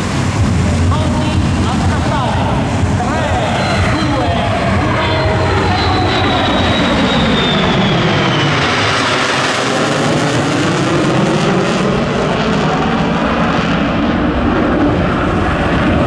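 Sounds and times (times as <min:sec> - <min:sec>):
fighter jet roar: 0:00.0 - 0:16.0
high jet whine sliding down: 0:00.0 - 0:16.0.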